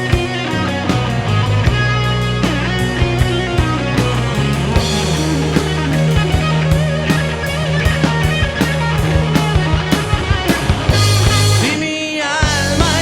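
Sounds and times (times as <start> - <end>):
bass: 0.0 - 13.0
drum kit beat: 0.0 - 13.0
electric guitar: 0.0 - 13.0.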